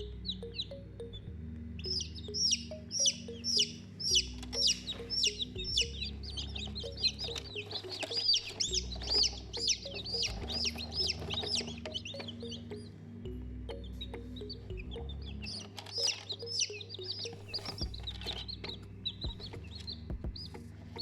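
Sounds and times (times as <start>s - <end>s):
baby chicks peeping: 0.0s - 21.0s.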